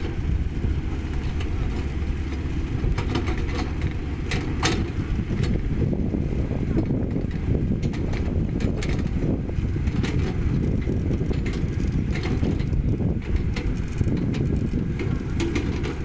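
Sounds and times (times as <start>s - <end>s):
diesel engine rumbling: 0.0s - 16.0s
gravel crunching: 0.0s - 16.0s.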